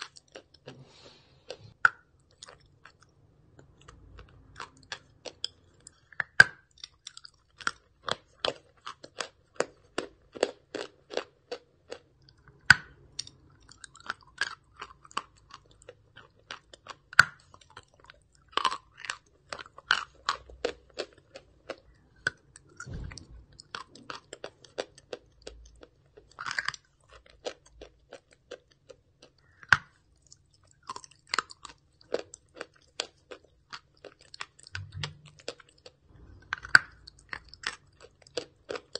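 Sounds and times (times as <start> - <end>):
person chewing crunchy chalk: 0.0 - 38.9.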